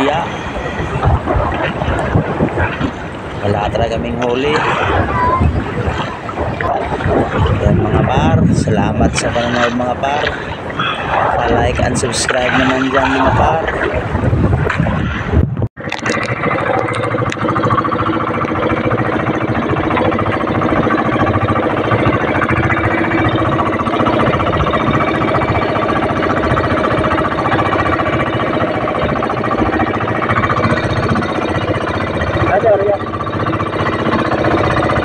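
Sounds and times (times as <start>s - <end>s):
boat engine pulsing: 0.0s - 35.0s.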